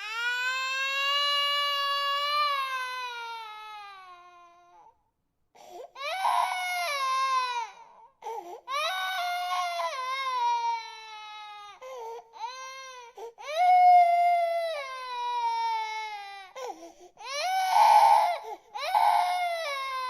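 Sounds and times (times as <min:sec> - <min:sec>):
infant crying: 0:00.0 - 0:04.9, 0:05.6 - 0:20.0.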